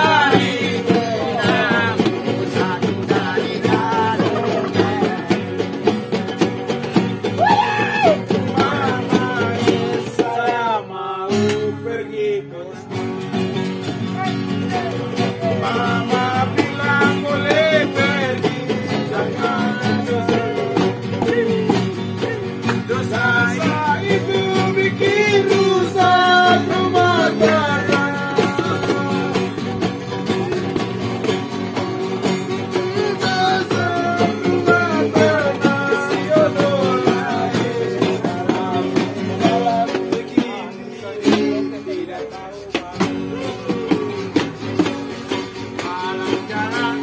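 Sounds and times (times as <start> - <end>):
guitars strummed: 0.0 - 47.0
men singing: 0.0 - 47.0.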